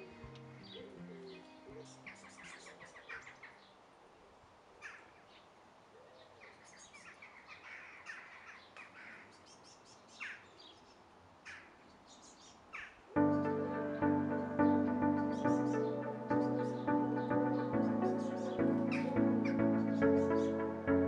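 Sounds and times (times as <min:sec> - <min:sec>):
birds chirping: 0:00.0 - 0:03.8, 0:04.8 - 0:21.0
background hiss: 0:00.0 - 0:21.0.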